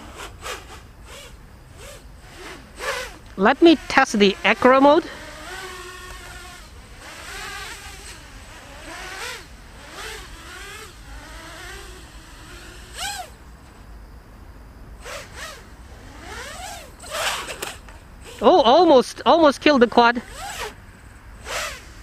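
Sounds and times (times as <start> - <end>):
quadcopter motors buzzing: 0.0 - 14.1, 14.8 - 22.0.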